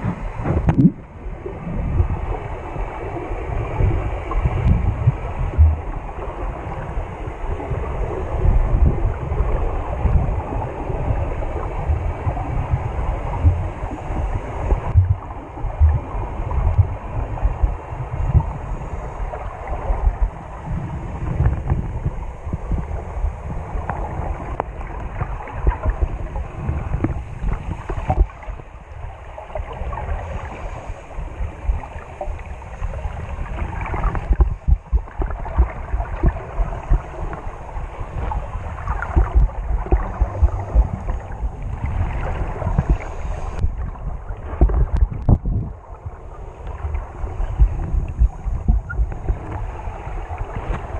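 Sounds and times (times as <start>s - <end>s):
underwater water sloshing: 0.0s - 50.9s.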